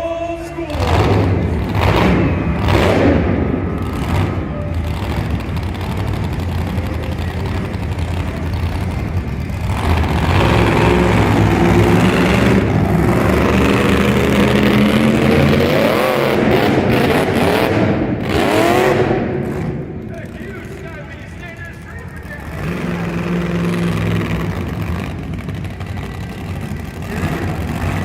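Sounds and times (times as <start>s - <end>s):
monster truck engine revving: 0.0s - 28.0s.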